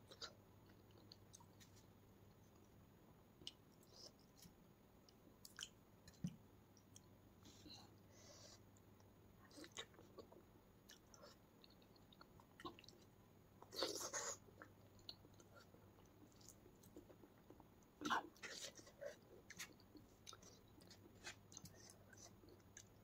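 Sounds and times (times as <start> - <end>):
person chewing soft food: 0.0 - 2.7, 3.4 - 23.0.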